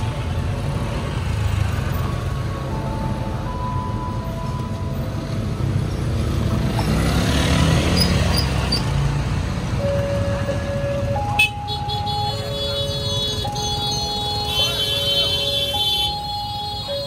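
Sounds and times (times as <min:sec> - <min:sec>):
vehicle engines passing: 0:00.0 - 0:17.0.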